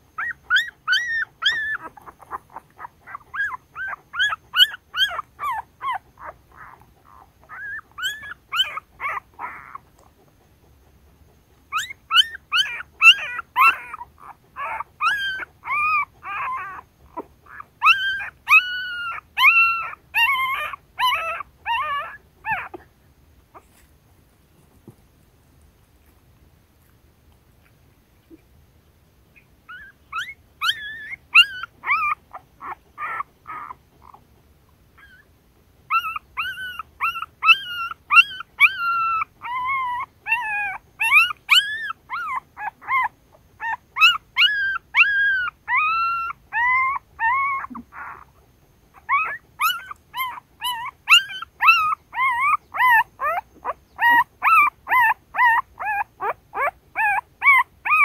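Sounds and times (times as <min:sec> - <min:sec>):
puppies whimpering and squealing: 0:00.0 - 0:22.9, 0:29.4 - 0:34.3, 0:35.0 - 0:35.3, 0:35.9 - 0:58.0.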